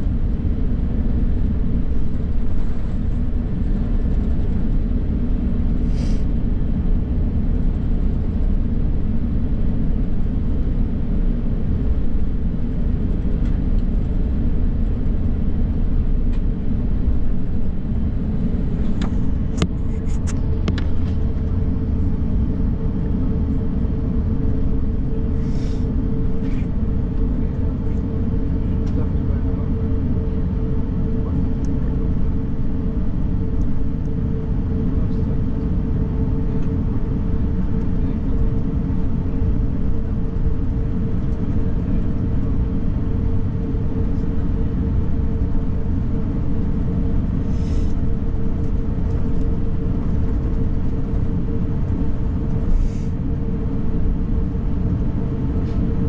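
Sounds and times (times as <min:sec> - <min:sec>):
airplane cabin rumble: 0:00.0 - 0:56.0
jet engines idling hum: 0:00.0 - 0:56.0.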